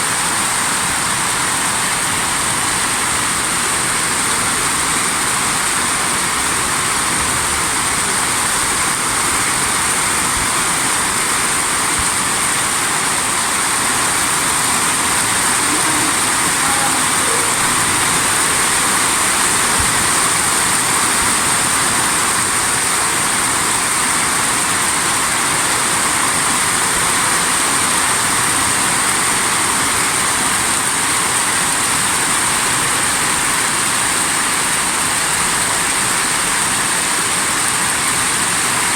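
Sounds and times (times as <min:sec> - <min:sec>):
torrential water rushing: 0:00.0 - 0:38.9.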